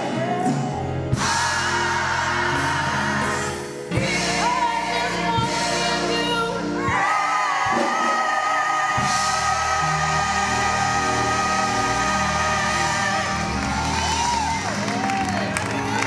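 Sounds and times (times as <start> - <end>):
gospel accompaniment: 0.0 - 16.0.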